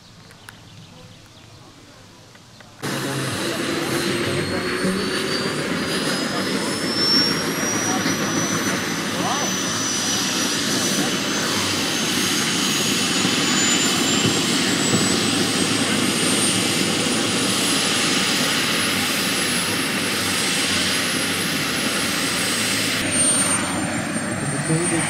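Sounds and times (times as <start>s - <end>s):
model turbine high whine: 2.8s - 25.0s.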